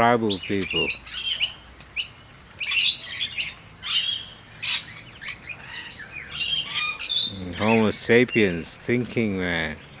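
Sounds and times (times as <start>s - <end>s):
flock of birds calling harshly: 0.0s - 8.8s.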